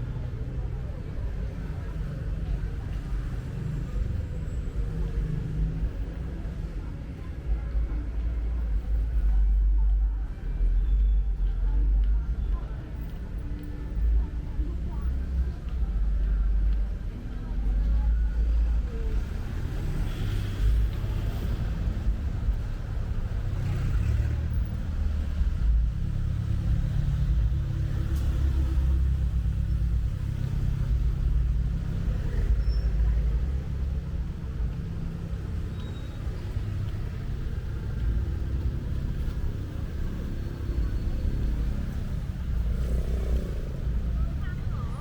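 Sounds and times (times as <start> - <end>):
city traffic rumble: 0.0 - 45.0
faint street sounds: 0.0 - 45.0.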